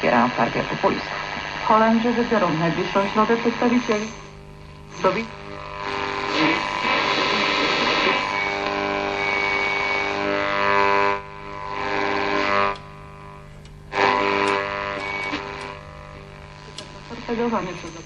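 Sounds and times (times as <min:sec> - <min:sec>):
radio buzzing interference: 0:00.0 - 0:18.0
radio crackles: 0:00.0 - 0:18.0.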